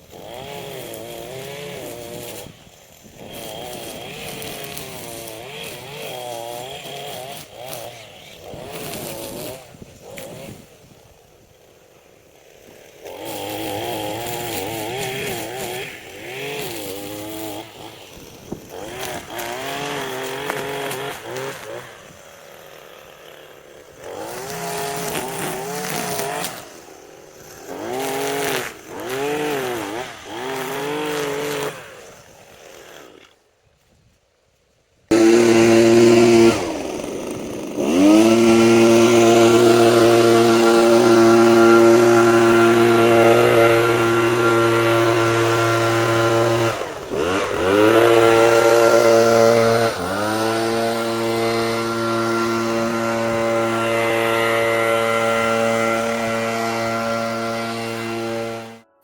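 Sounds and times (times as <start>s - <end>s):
power tool engine revving: 0.0s - 11.3s, 12.4s - 33.4s, 35.1s - 59.0s.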